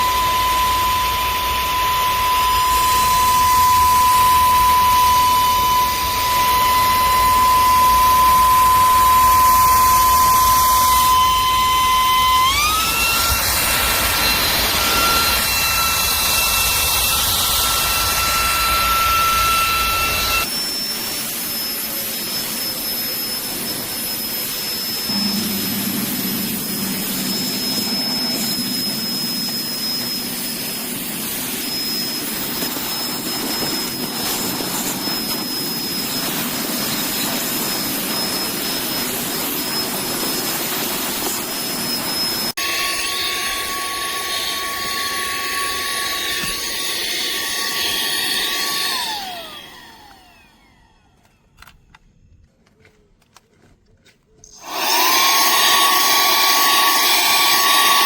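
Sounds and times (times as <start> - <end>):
handheld vacuum cleaner motor whining: 0.0 - 52.0, 54.4 - 58.0.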